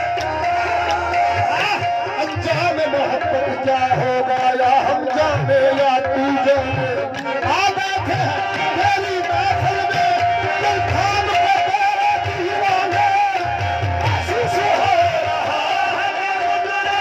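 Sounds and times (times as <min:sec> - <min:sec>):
harmoniums playing melody: 0:00.0 - 0:17.0
man singing: 0:00.0 - 0:17.0.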